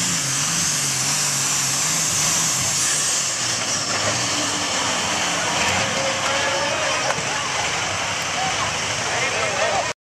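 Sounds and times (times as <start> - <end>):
diesel tractor engine under load: 0.0 - 10.0.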